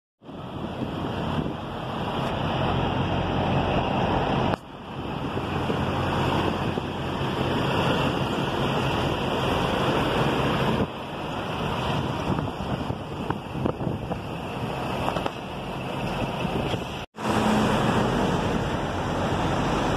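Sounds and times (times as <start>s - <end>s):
truck engine droning: 0.2s - 19.9s
wind noise on microphone: 0.2s - 19.9s.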